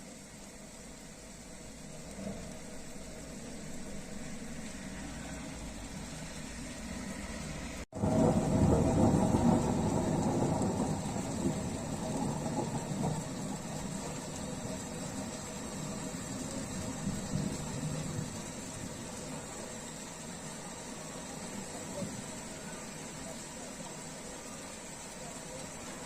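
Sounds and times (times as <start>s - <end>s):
rain hissing: 0.0s - 26.0s
thunder rumbling: 1.8s - 23.4s.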